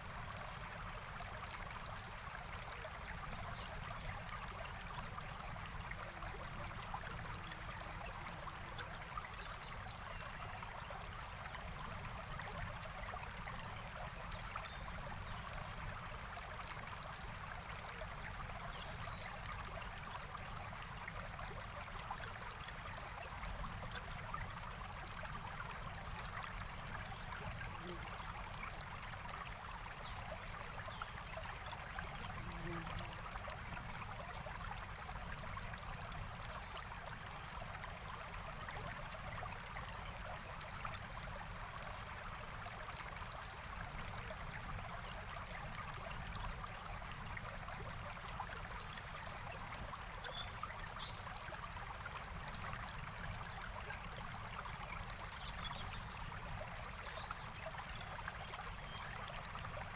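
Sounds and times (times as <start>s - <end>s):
stream water rushing and trickling: 0.0s - 59.9s.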